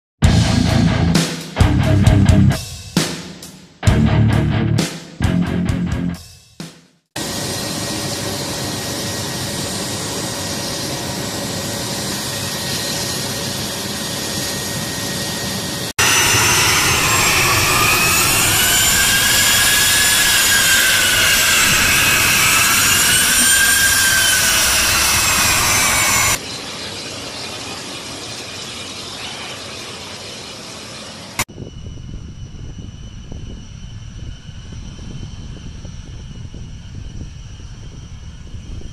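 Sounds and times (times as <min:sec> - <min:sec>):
jet engines whining: 0:07.2 - 0:38.9.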